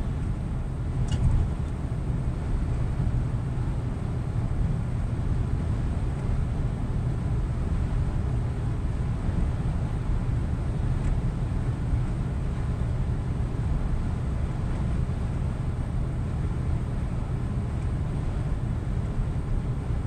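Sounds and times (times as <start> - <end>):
truck engine and tyre rumble: 0.0 - 20.0.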